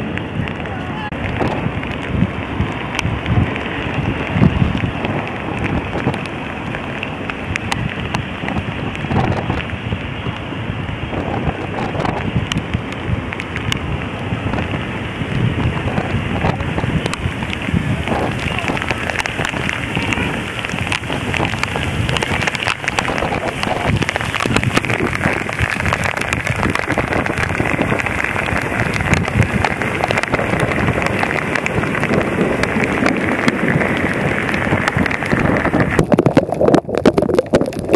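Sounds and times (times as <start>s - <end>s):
heavy rain pelting a surface: 0.0s - 37.9s.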